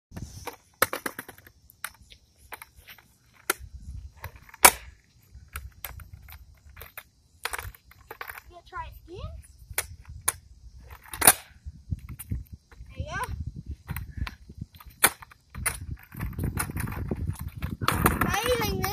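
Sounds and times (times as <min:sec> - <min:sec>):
skateboard clacking on concrete: 0:00.4 - 0:08.6, 0:09.7 - 0:18.9.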